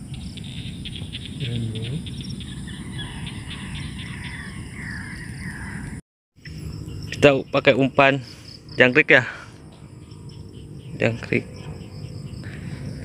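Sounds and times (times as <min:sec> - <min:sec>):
rapid high insect chirps: 0:00.0 - 0:05.4, 0:06.4 - 0:13.0
warbling bird calls: 0:00.0 - 0:13.0.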